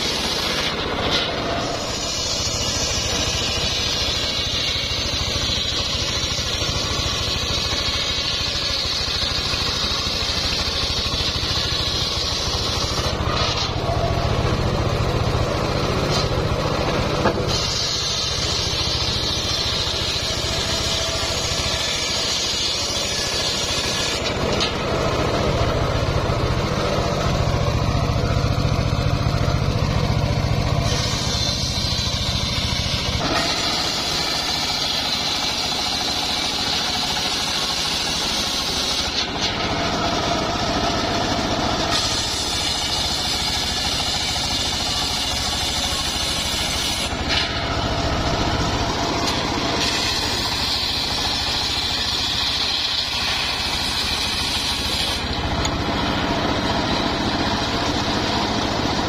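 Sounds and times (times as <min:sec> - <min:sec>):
circular saw cutting wood: 0:00.0 - 0:59.0.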